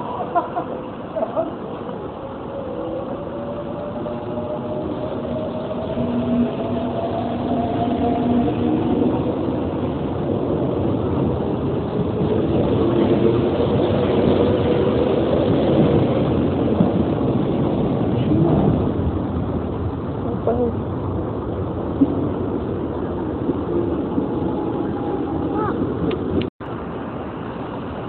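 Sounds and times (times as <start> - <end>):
train running on rails: 0.0 - 28.0.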